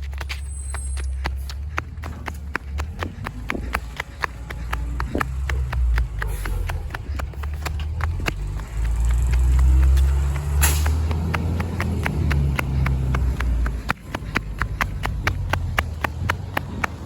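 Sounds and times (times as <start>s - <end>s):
garbage truck diesel engine: 0.0s - 17.0s.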